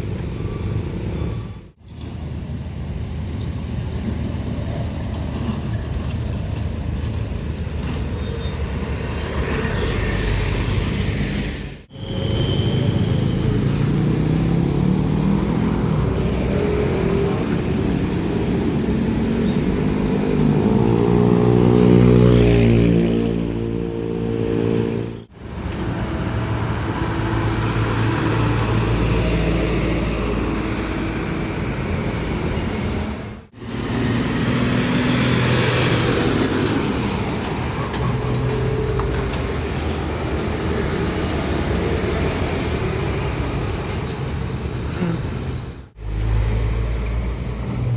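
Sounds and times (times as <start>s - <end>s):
trucks passing on a road: 0.0s - 47.9s.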